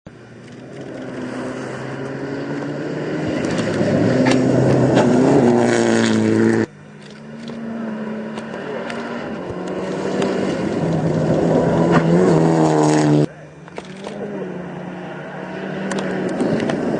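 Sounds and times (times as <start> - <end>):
distant car engine: 0.1 - 16.9
rally car engine at speed: 0.1 - 16.9.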